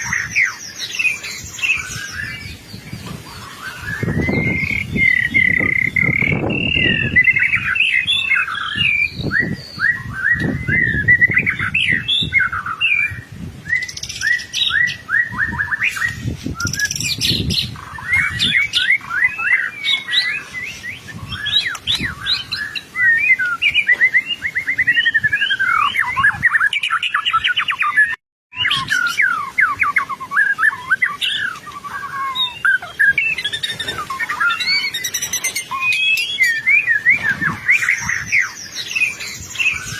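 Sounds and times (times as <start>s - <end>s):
bird singing varied whistles: 3.6s - 39.9s.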